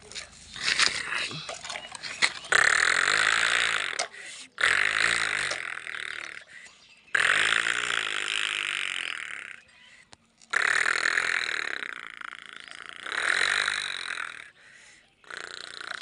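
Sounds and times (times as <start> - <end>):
person imitating tractor engine: 2.4 - 16.0.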